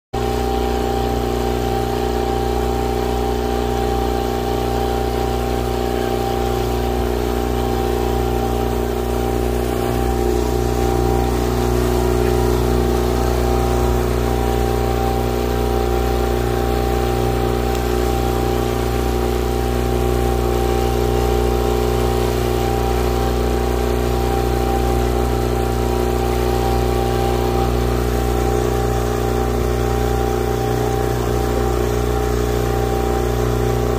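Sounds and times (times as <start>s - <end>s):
outboard motors humming: 0.2s - 33.9s.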